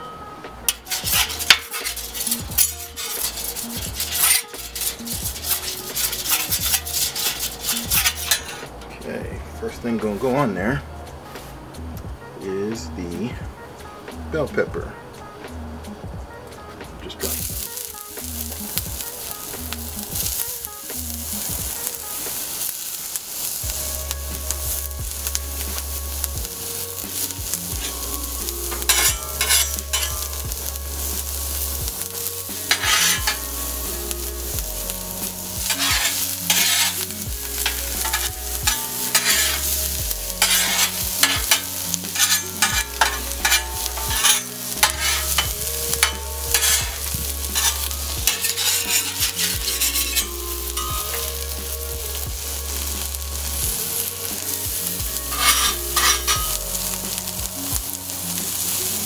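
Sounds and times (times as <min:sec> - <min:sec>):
peppers sizzling on griddle: 0:00.6 - 0:09.2, 0:17.1 - 0:59.0
metal spatula scraping steel: 0:00.7 - 0:08.9, 0:17.2 - 0:59.0.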